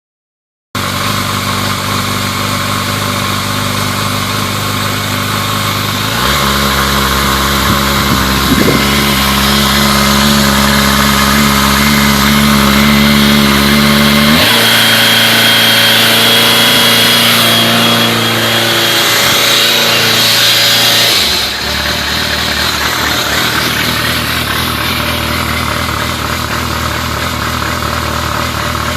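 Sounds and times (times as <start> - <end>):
motorcycle engine idling: 0.8 - 28.9.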